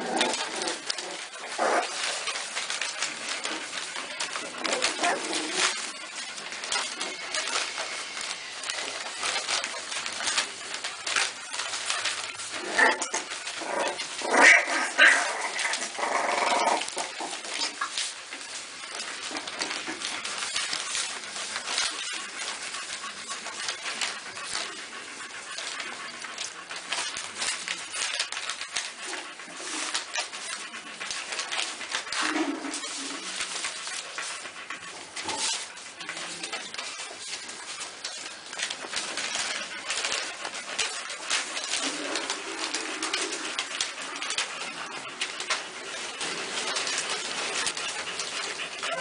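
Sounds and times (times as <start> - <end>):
newspaper crackling: 0.0 - 49.0
puppies whimpering and yelping: 0.0 - 49.0.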